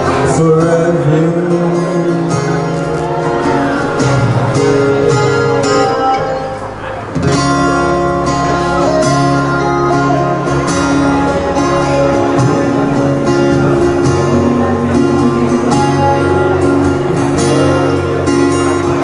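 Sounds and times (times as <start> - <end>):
bass guitar line: 0.0 - 19.0
strummed acoustic guitars: 0.0 - 19.0.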